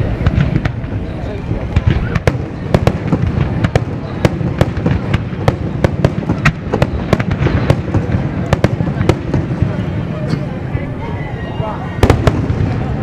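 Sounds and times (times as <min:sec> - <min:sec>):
fireworks bangs and cracks: 0:00.0 - 0:10.7, 0:12.0 - 0:13.0
low rumble of distant bursts: 0:00.0 - 0:13.0.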